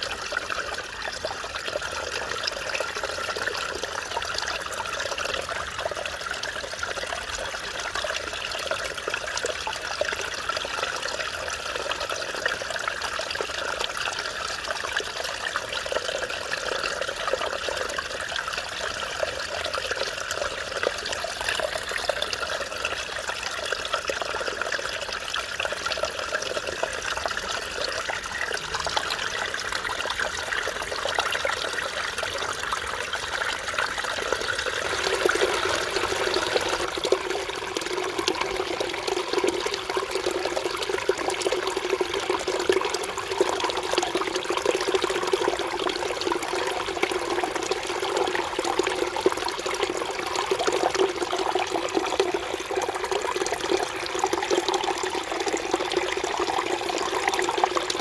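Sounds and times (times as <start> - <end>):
stream water flowing over rocks: 0.0 - 58.0.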